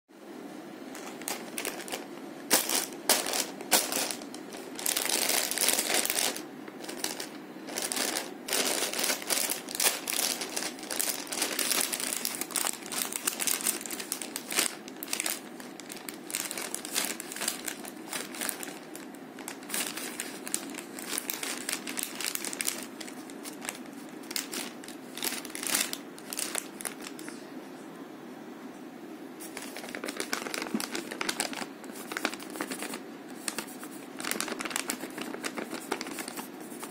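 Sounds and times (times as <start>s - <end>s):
plastic bag crinkling: 0.9s - 27.4s, 29.4s - 36.9s.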